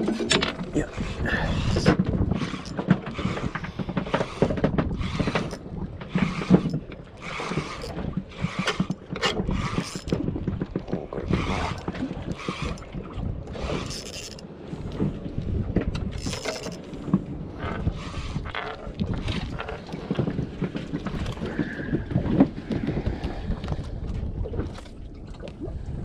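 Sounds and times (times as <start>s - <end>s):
waves slapping boat hull: 0.0s - 26.0s
wind buffeting microphone: 0.0s - 26.0s.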